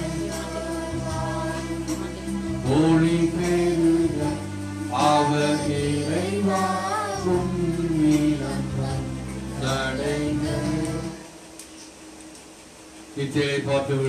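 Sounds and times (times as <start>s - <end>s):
hymn singing: 0.0s - 11.5s
sustained instrumental chords: 0.0s - 11.5s.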